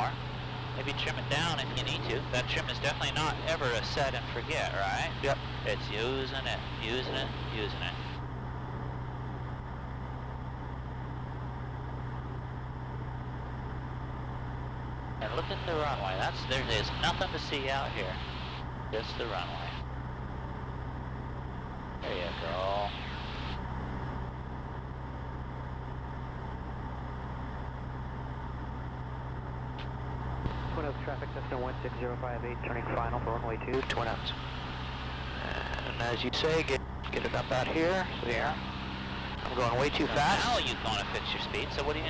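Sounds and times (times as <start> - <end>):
light aircraft engine droning: 0.0 - 42.0.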